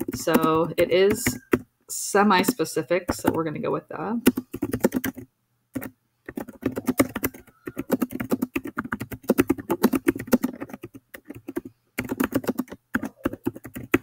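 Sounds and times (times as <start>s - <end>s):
fast typing on keyboard: 0.0s - 1.7s, 2.4s - 3.4s, 4.2s - 14.0s.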